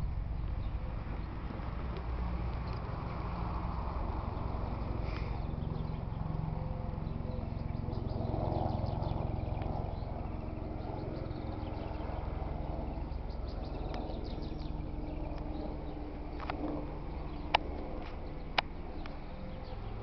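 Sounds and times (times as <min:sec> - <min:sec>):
low outdoor background noise: 0:00.0 - 0:20.0
small birds chirping: 0:00.0 - 0:20.0.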